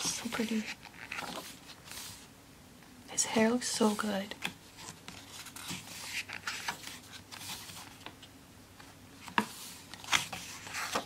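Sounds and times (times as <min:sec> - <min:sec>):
paper rustling: 0:00.0 - 0:02.3, 0:03.8 - 0:08.2, 0:08.8 - 0:11.0.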